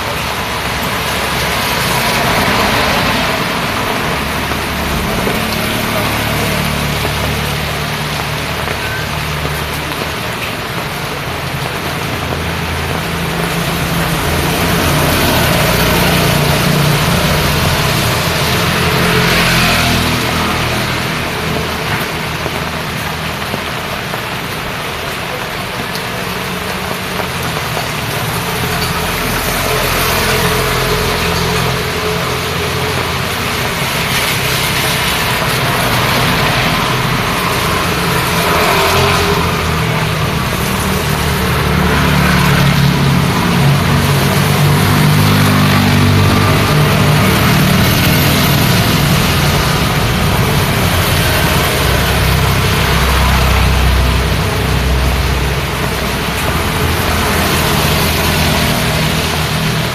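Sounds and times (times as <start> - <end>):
rain on wet road: 0.0 - 59.9
road traffic: 0.0 - 59.9.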